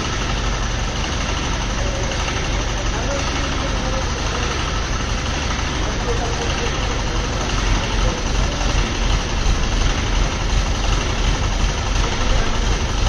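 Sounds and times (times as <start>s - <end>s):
crane engine idling: 0.0s - 13.0s.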